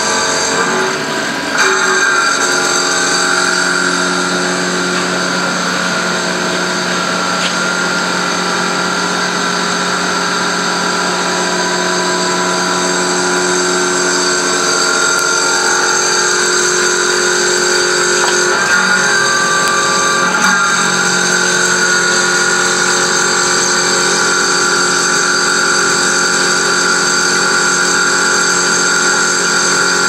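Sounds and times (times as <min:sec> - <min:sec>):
metal cutting noise: 0:00.0 - 0:30.0
milling machine whine: 0:00.0 - 0:30.0.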